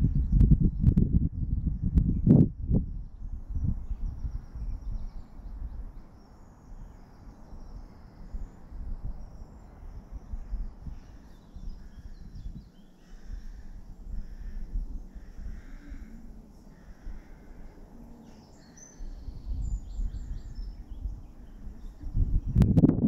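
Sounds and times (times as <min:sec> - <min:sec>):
unsteady low rumble: 0:00.0 - 0:23.0
faint bird chirps: 0:02.9 - 0:22.6.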